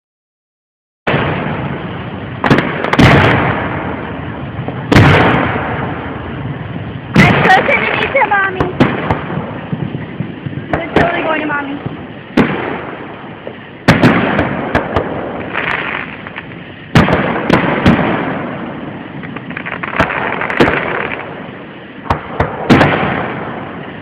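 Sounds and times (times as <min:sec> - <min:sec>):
fireworks bangs echoing: 0:01.1 - 0:24.0.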